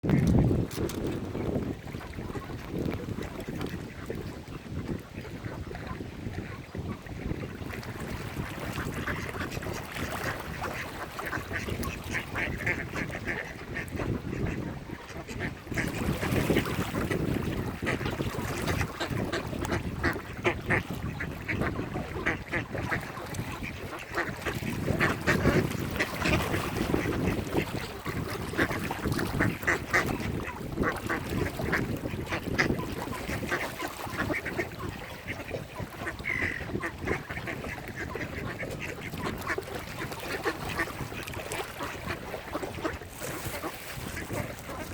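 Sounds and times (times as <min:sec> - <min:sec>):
ducks quacking: 0:01.4 - 0:44.9.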